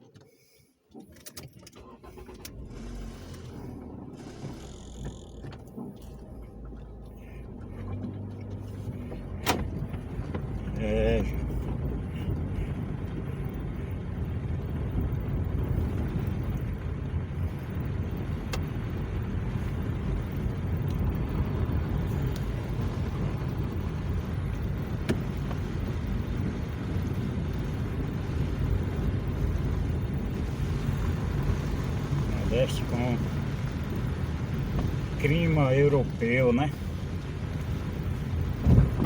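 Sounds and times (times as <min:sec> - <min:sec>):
car driving rumble: 0:00.1 - 0:39.0.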